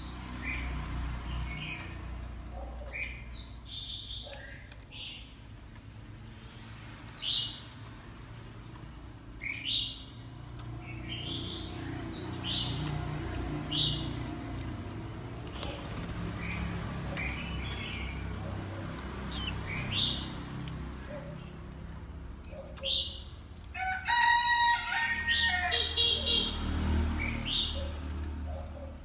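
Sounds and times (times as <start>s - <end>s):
bird chirping: 0.0s - 5.8s, 6.4s - 8.0s, 8.6s - 23.5s, 27.1s - 29.0s.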